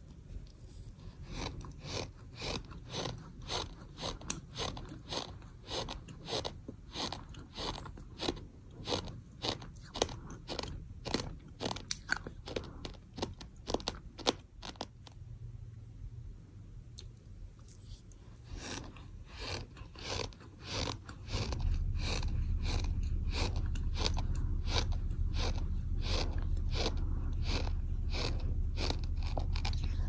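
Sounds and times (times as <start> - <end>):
person chewing gritty sand: 0.4 - 15.2, 17.0 - 30.0.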